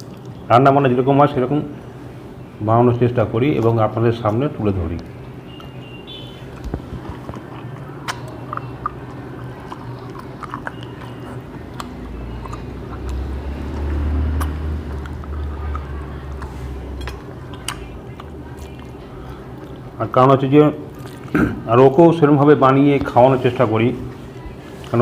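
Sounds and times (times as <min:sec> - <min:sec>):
small eating clicks: 0:00.0 - 0:01.9, 0:02.8 - 0:23.6
people chewing food: 0:00.0 - 0:25.0.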